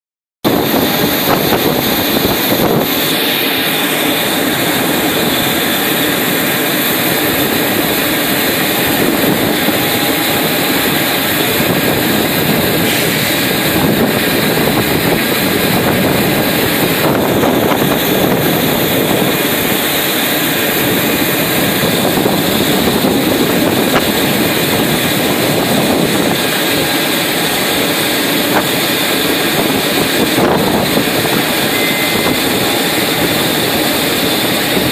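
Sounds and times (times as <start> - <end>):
jet aircraft noise: 0.4 - 34.9
gusty wind on microphone: 0.5 - 34.9.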